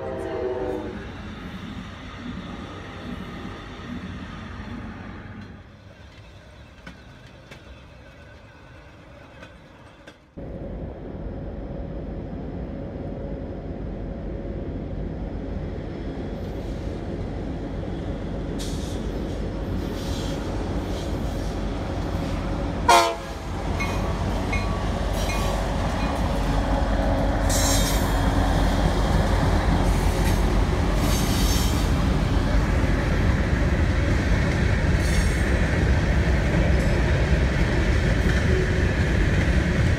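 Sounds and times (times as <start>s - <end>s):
diesel locomotive engine rumble: 0.0s - 39.9s
train rail noise: 0.0s - 39.9s
hiss of wheels on rails: 1.0s - 10.4s, 16.3s - 39.9s.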